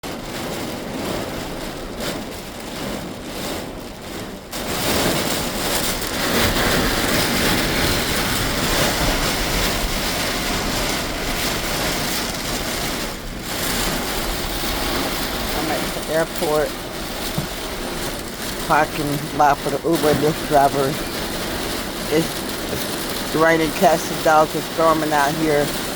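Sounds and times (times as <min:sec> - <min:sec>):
heavy rain on car roof: 0:00.0 - 0:25.9.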